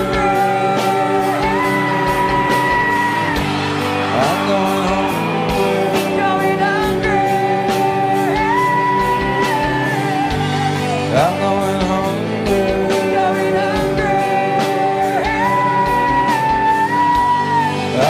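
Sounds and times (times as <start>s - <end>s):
guitar: 0.0s - 18.0s
steady drum beat: 0.0s - 18.0s.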